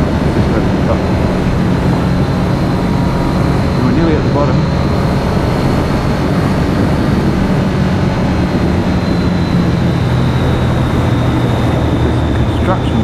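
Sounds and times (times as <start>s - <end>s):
motorcycle engine running: 0.0s - 13.0s
wind rushing past microphone: 0.0s - 13.0s.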